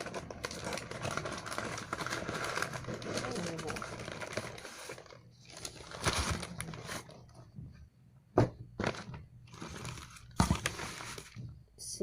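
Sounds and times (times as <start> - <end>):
takeout packaging rustling: 0.0 - 7.4, 8.8 - 11.5.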